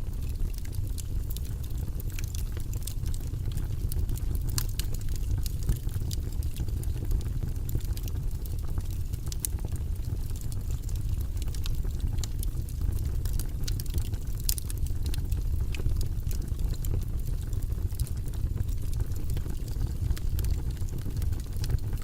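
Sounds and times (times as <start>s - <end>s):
wood fire crackling in fireplace: 0.0s - 22.0s.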